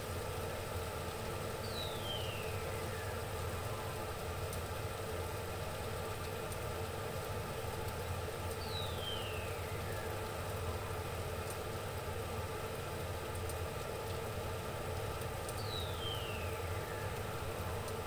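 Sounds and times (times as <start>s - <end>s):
stove hum and hiss: 0.0s - 18.0s.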